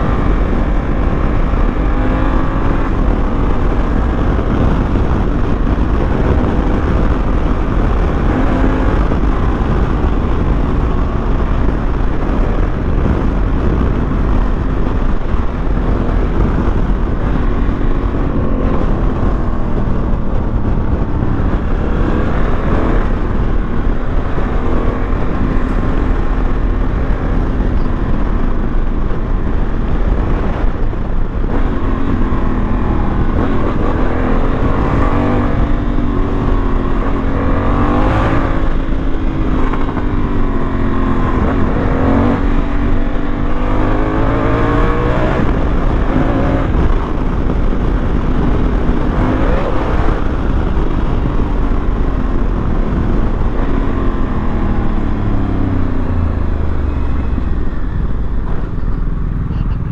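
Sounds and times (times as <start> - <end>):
motorcycle engine running: 0.0 - 59.9
wind rushing: 0.0 - 59.9.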